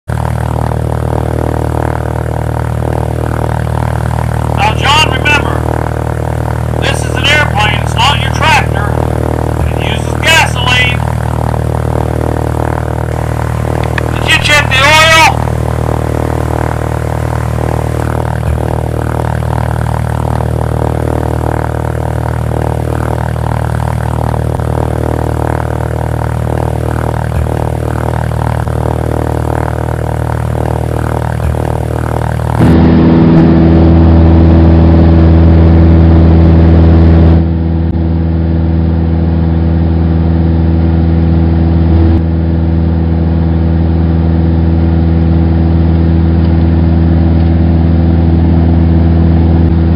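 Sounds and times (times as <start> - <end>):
light aircraft engine running: 0.0 - 49.9.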